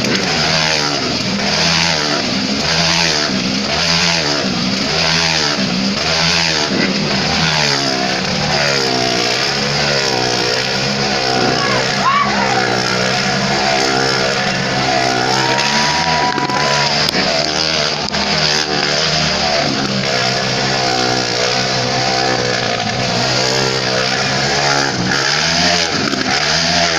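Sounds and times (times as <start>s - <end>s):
motorcycle engines revving: 0.0s - 26.9s.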